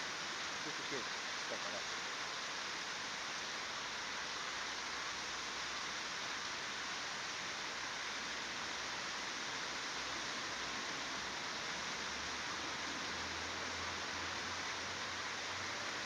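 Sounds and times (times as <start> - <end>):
flowing water hiss: 0.0 - 16.0.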